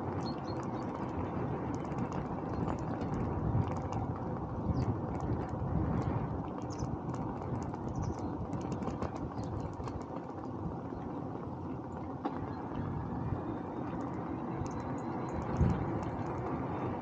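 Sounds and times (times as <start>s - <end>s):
faint ticks: 0.0s - 10.5s, 13.8s - 17.0s
bicycle tyre rumble: 0.0s - 17.0s
wind on microphone: 0.0s - 17.0s.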